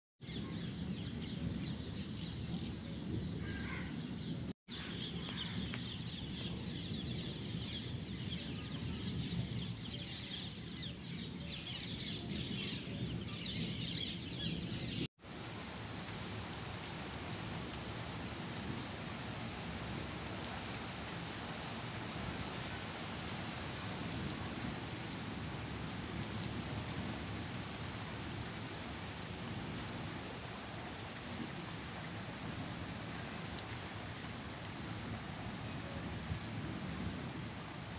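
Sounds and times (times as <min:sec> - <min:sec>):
rain falling: 0:05.0 - 0:37.9.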